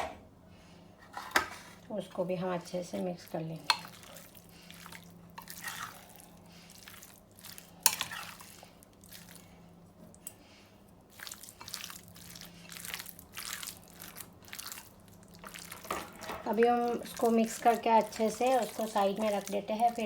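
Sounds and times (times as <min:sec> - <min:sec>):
stirring meat in a bowl: 0:02.1 - 0:20.0.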